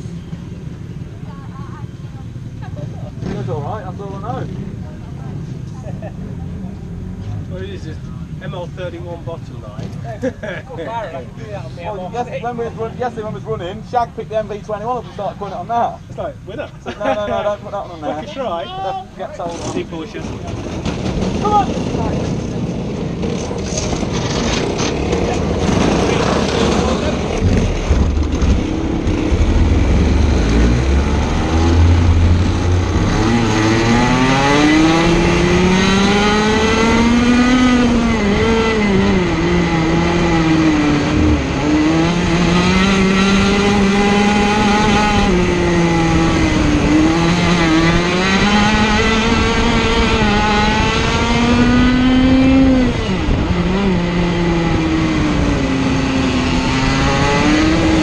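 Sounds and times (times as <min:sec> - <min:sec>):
kart engine revving: 0:02.4 - 0:15.8, 0:18.2 - 0:58.0.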